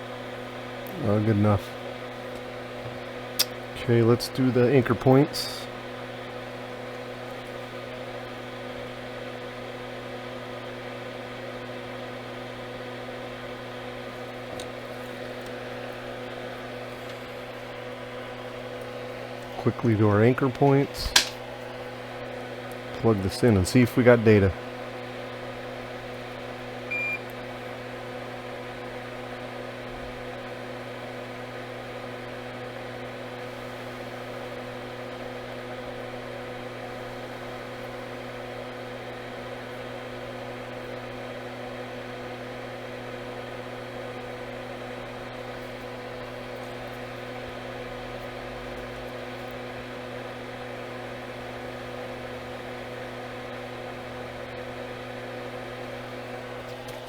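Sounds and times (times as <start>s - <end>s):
extractor fan humming: 0.0s - 57.0s.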